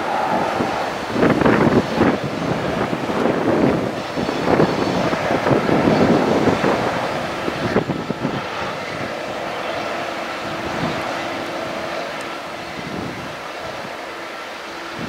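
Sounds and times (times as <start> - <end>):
distant engine hum: 0.0 - 15.0
wind buffeting microphone: 0.0 - 15.0.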